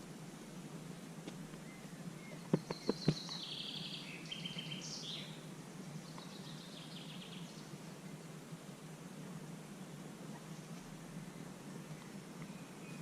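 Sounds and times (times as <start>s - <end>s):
low background hiss: 0.0s - 13.0s
songbird singing: 0.0s - 13.0s.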